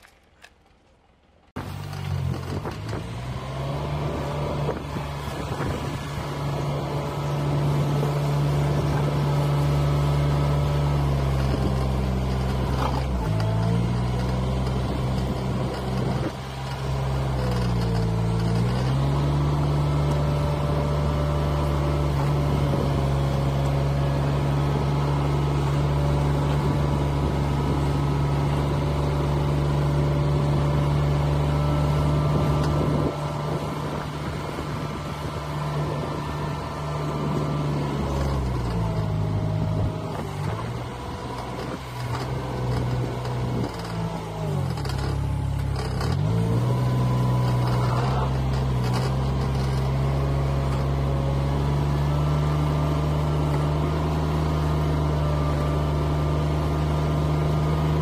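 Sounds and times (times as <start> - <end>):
manure scraper engine running: 1.6 - 58.0.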